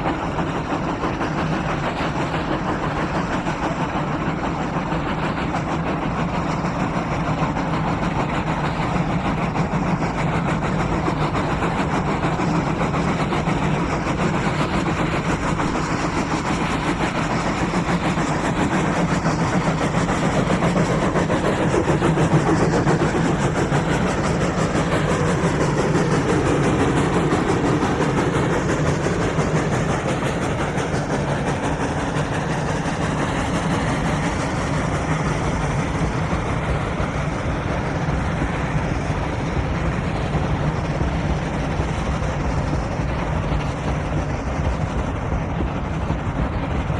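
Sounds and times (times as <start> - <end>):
steam locomotive exhaust beats: 0.0 - 46.9.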